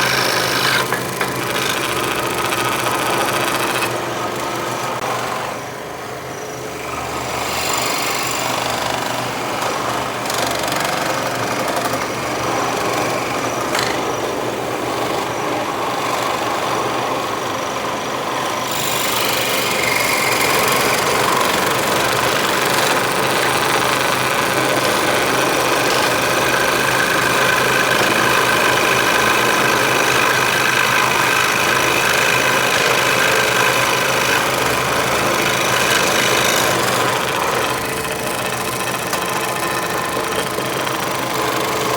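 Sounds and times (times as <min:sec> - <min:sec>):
scroll saw cutting wood: 0:00.0 - 0:05.8, 0:06.7 - 0:41.9.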